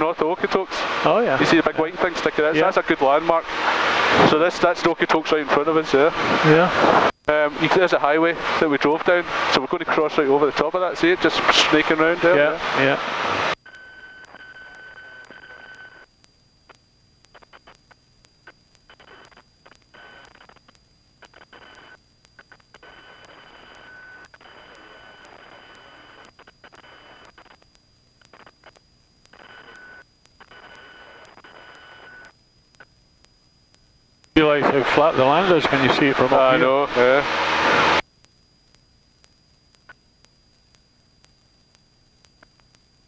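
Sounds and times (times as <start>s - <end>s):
intercom hiss with steady whine: 0.0s - 43.0s.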